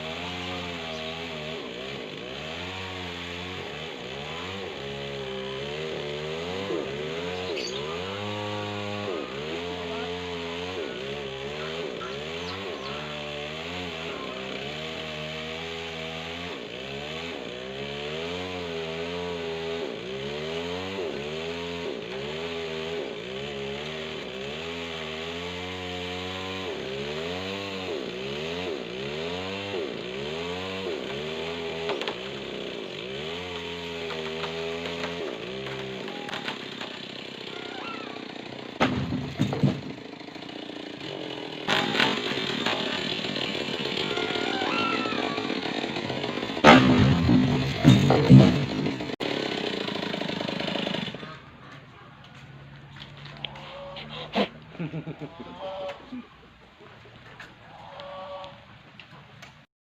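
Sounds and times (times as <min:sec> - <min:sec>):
chainsaw cutting wood: 0:00.0 - 0:56.2.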